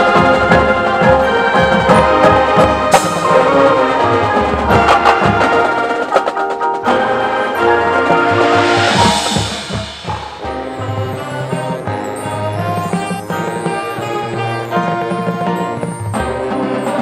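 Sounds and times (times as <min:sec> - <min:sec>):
mallet percussion and wood block: 0:00.0 - 0:17.0
wind instruments holding chords: 0:00.0 - 0:17.0.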